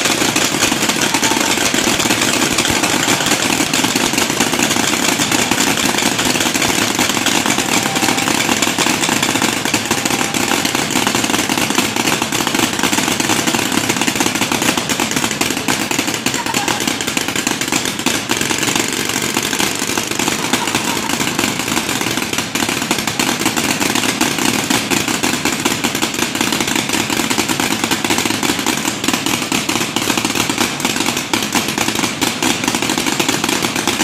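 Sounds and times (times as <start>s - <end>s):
paintball markers firing rapidly: 0.0s - 34.0s.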